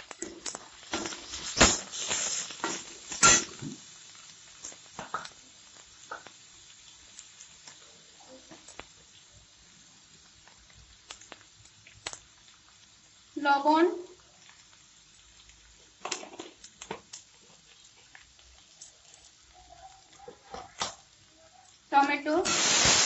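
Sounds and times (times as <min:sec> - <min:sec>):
faint sizzle of frying: 0:00.0 - 0:23.0.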